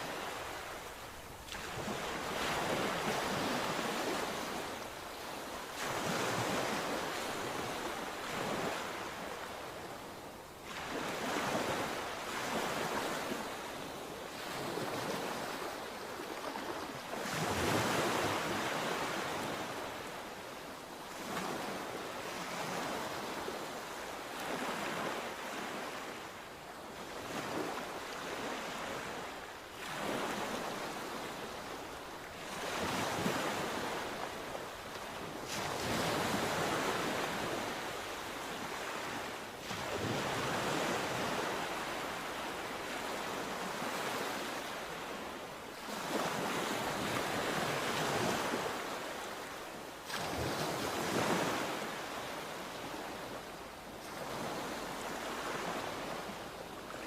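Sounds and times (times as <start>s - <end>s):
sea waves breaking on shore: 0.0s - 57.0s
surf hiss: 0.0s - 57.0s.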